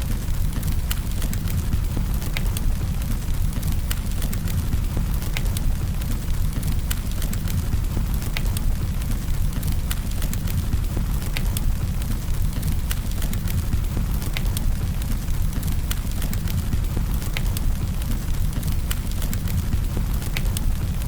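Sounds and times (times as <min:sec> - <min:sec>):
campfire flames rumbling: 0:00.0 - 0:21.0
fire crackling and popping: 0:00.0 - 0:21.0.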